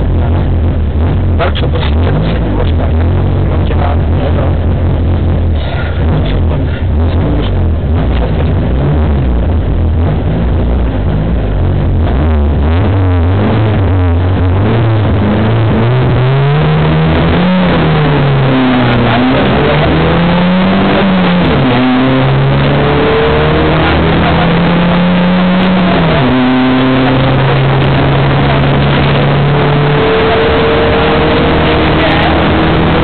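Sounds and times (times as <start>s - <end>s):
car engine accelerating through gears: 0.0s - 33.0s.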